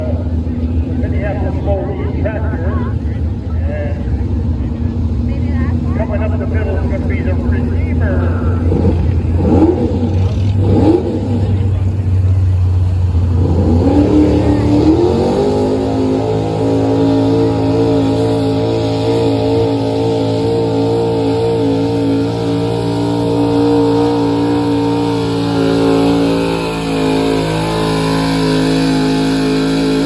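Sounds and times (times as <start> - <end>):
truck engine at full throttle: 0.0 - 30.0.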